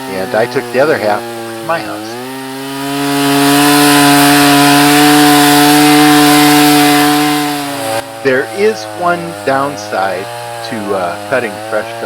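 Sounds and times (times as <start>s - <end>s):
chainsaw sawing through wood: 0.0s - 12.0s.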